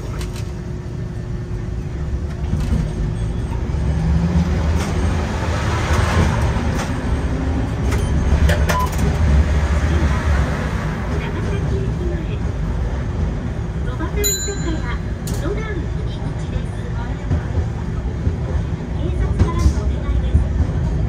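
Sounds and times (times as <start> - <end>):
tram wheels rumbling on rail: 0.0 - 21.0.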